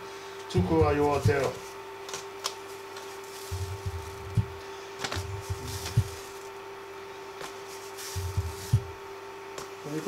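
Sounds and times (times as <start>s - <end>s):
induction cooker humming: 0.0s - 10.0s.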